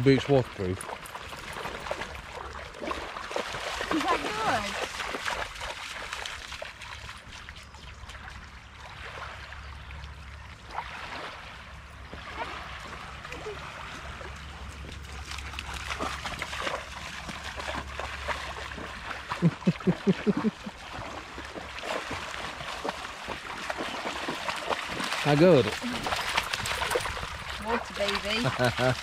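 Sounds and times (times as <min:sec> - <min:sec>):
dog splashing in water: 0:00.6 - 0:09.4, 0:12.1 - 0:29.0.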